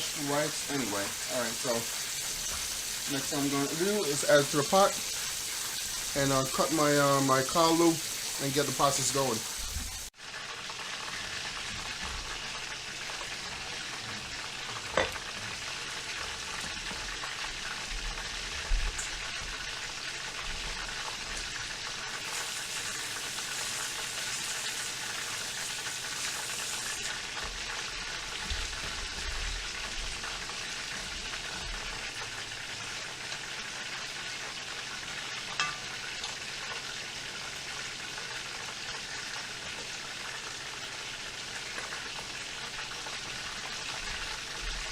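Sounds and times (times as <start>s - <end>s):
food sizzling in a pot: 0.0s - 44.9s.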